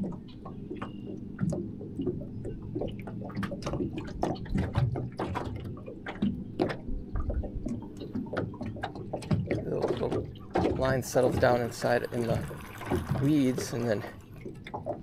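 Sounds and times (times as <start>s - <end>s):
waves lapping against boat hull: 0.0s - 15.0s.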